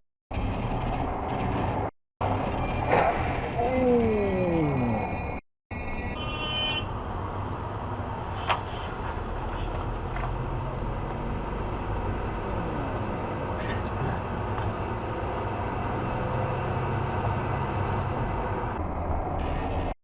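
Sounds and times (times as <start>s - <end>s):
car road and engine noise: 0.3s - 3.6s, 4.8s - 20.0s.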